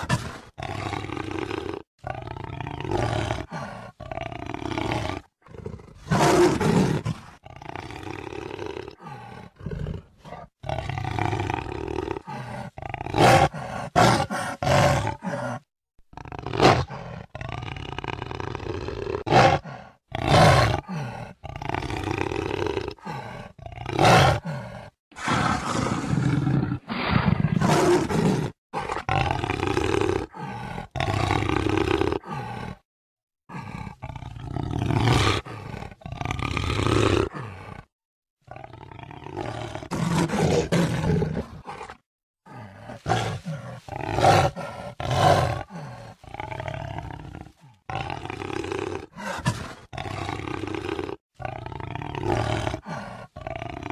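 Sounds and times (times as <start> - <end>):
jaguar roaring and growling: 0.0 - 32.8, 33.5 - 37.9, 38.5 - 53.9.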